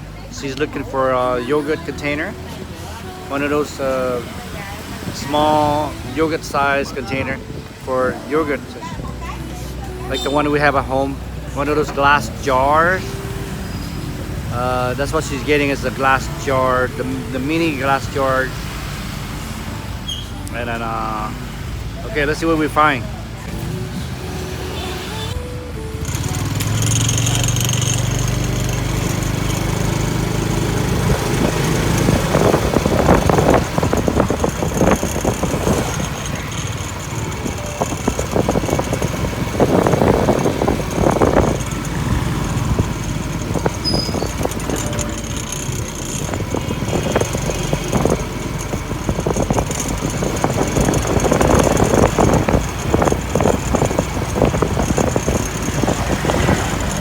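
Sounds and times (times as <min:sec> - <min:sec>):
vehicle engines running: 0:00.0 - 0:57.0
vehicles passing: 0:00.0 - 0:57.0.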